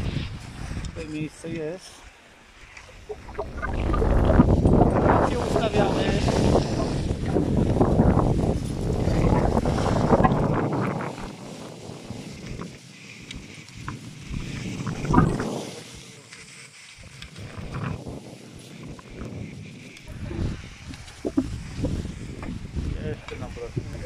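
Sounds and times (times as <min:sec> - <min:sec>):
wind buffeting microphone: 0:00.0 - 0:01.8, 0:02.6 - 0:24.0.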